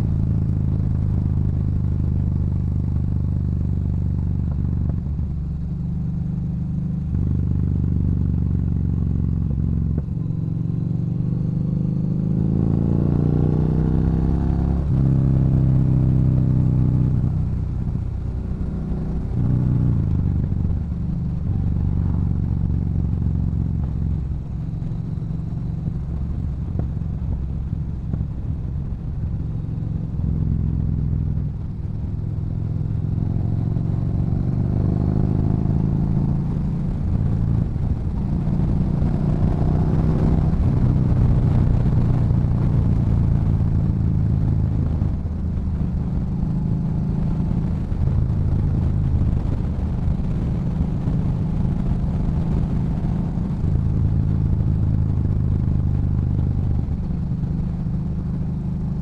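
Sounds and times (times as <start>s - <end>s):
motorcycle engine while riding: 0.0s - 59.0s.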